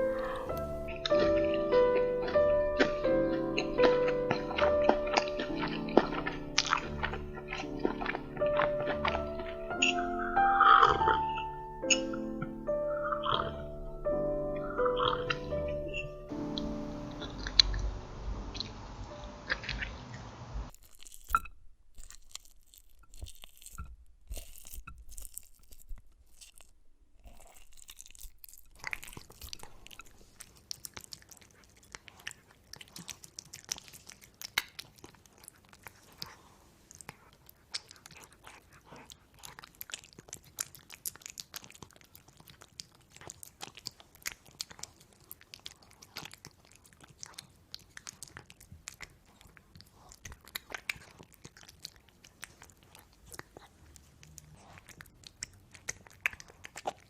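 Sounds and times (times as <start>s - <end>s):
person chewing crunchy food: 0.0s - 20.0s, 20.7s - 57.0s.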